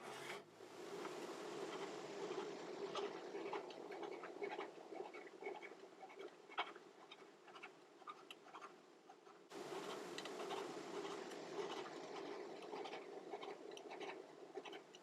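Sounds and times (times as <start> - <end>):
faint scratching: 0.0 - 15.0
low steady hum: 0.0 - 15.0
small ticks and clicks: 0.9 - 15.0.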